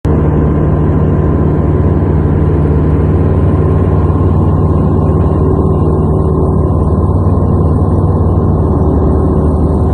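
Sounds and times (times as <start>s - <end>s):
airplane engine drone: 0.0s - 9.9s
thin steady whine: 0.1s - 9.9s.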